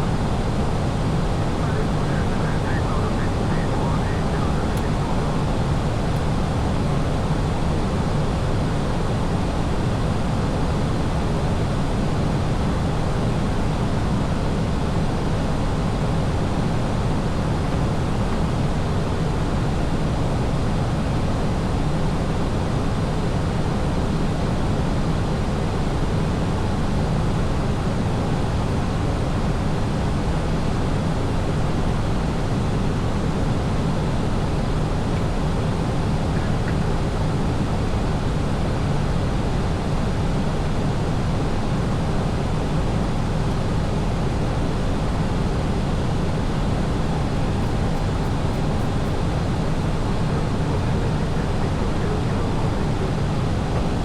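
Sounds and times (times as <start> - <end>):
airliner cabin engine and airflow noise: 0.0 - 54.0.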